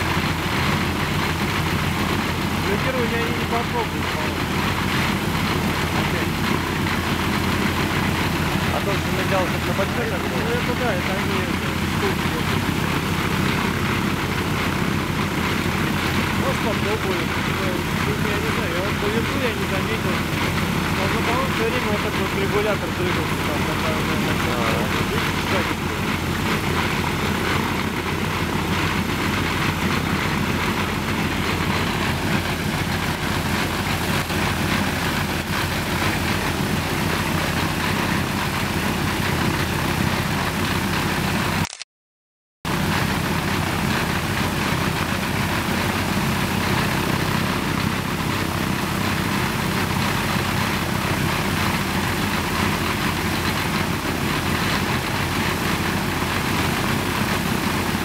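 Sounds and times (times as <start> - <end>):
radial piston engine running: 0.0 - 41.8, 42.7 - 58.0.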